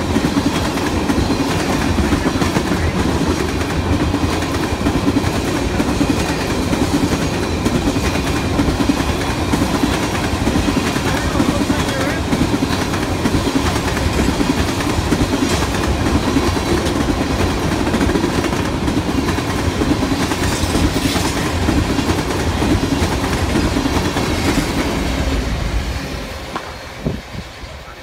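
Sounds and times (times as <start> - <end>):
freight train wheels rumbling: 0.0 - 28.0
train wheels clicking: 0.0 - 28.0.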